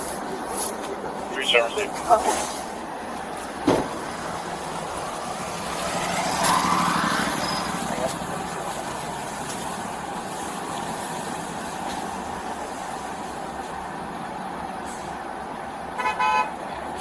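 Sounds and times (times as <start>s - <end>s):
motor vehicle passing: 0.0s - 15.1s
traffic noise: 0.0s - 17.0s.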